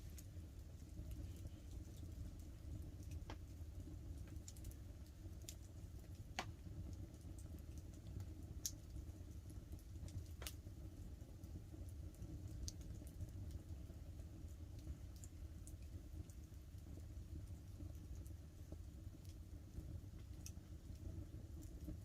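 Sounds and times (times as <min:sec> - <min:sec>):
campfire crackling: 0:00.0 - 0:22.0
low fire rumble: 0:00.0 - 0:22.0.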